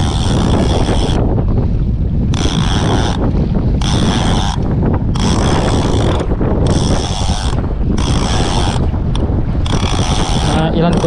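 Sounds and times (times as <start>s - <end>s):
fishing reel whirring: 0.0s - 11.0s
wind rumble on microphone: 0.0s - 11.0s.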